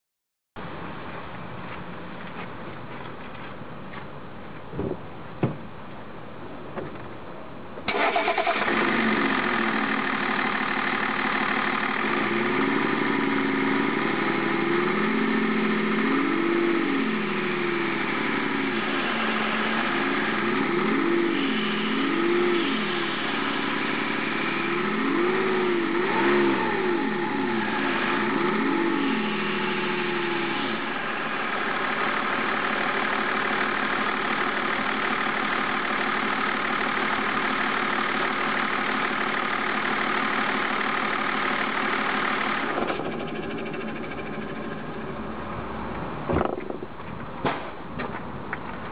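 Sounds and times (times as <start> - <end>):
diesel engine starting and revving: 7.8 - 48.9.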